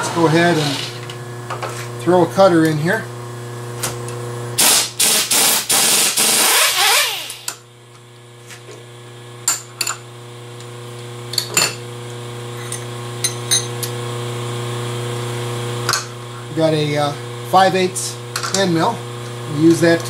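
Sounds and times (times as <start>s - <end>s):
steady low machine hum: 0.0s - 20.0s.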